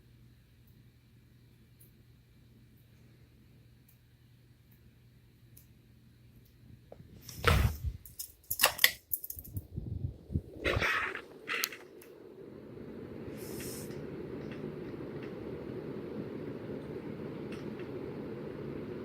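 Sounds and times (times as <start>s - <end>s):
ceiling fan whirring: 0.0s - 19.0s.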